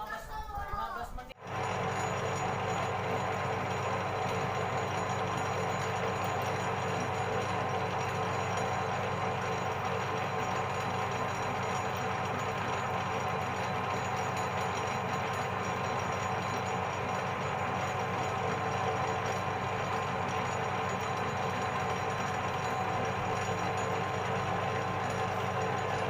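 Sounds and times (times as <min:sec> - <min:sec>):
metal lathe humming: 0:01.4 - 0:26.0.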